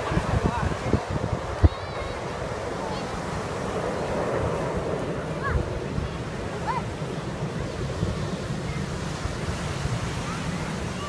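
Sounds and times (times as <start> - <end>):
steady rush like surf: 0.0 - 11.0
wind buffeting microphone: 0.0 - 11.0.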